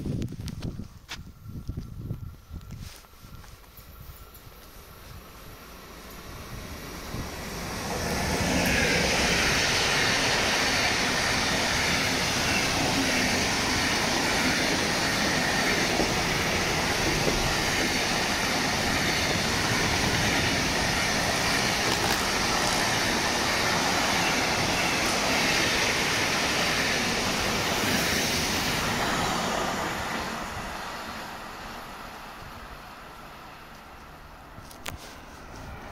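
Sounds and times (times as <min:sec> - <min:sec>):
train wheels rolling on rails: 0:00.0 - 0:35.9.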